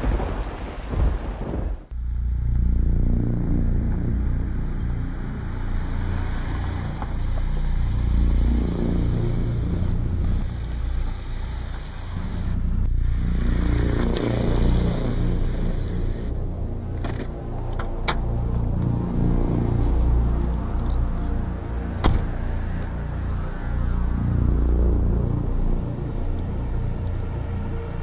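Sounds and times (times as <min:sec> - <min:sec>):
car engine rumbling: 0:01.9 - 0:28.0.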